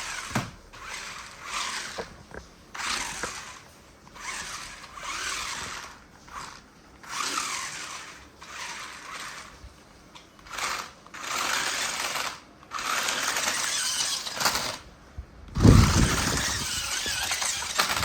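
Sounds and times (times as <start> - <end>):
toy car electric motor whirring: 0.0 - 14.9, 15.6 - 18.0.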